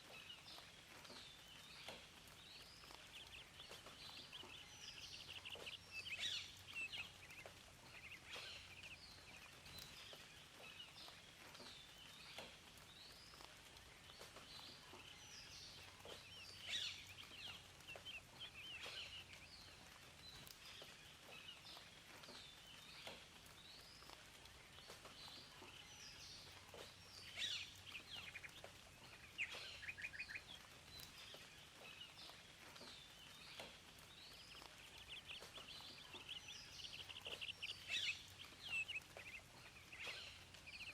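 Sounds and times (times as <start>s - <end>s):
faint background hiss: 0.0s - 40.9s
wild birds singing and calling: 0.0s - 40.9s.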